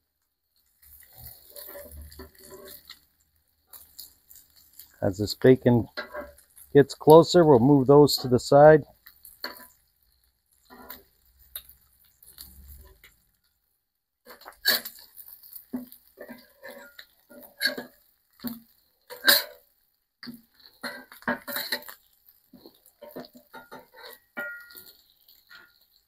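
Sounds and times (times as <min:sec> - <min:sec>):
metal spatula scraping griddle: 0:00.6 - 0:13.4, 0:14.3 - 0:26.0.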